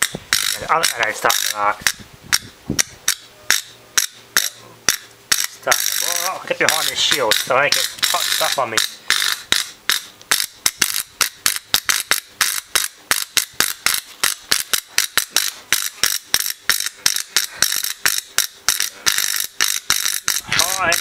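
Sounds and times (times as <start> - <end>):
electric arc crackling: 2.8 - 21.0.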